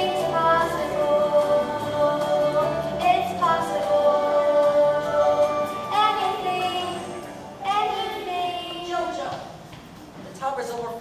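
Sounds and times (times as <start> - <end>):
girl singing: 0.0 - 9.2
backing music: 0.0 - 10.1.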